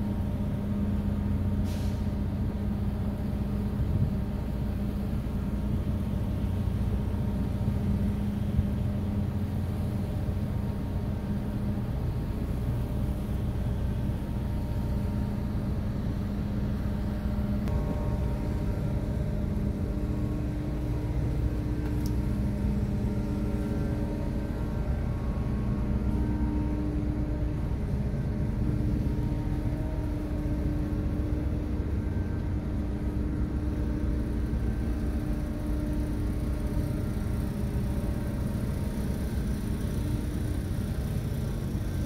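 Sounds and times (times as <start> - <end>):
ship engines droning: 0.0 - 42.0.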